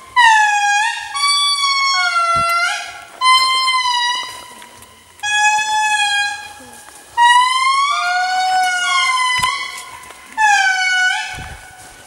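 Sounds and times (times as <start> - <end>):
lemurs singing: 0.1 - 12.0.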